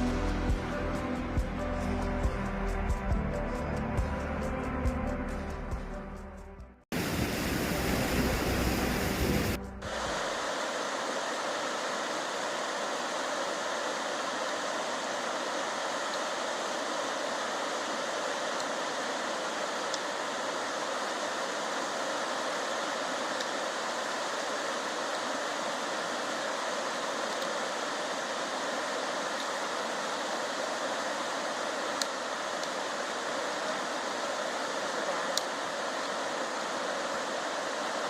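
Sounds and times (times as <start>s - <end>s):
waterfall rushing: 6.9s - 38.0s.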